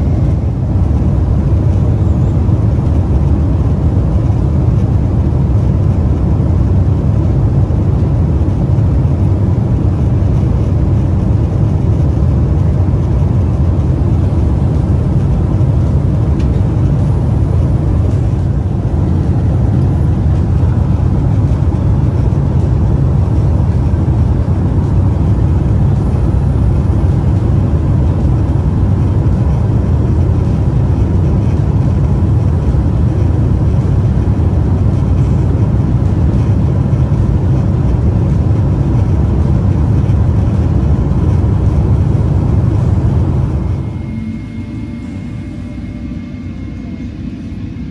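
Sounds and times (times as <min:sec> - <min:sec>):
airliner cabin rumble: 0:00.0 - 0:47.9.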